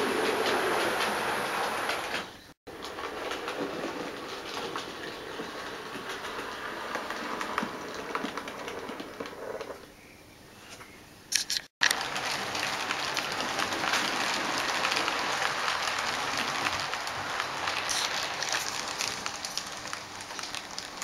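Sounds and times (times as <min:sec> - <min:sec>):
model train wheels clattering: 0:00.0 - 0:09.9, 0:11.3 - 0:21.0.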